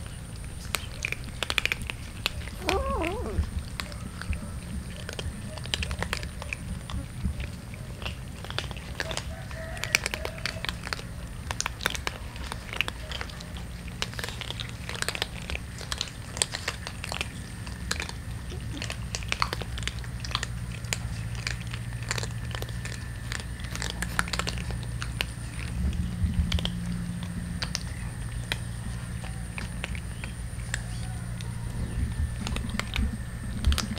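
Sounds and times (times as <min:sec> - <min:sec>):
cats crunching dry kibble: 0:00.0 - 0:33.9.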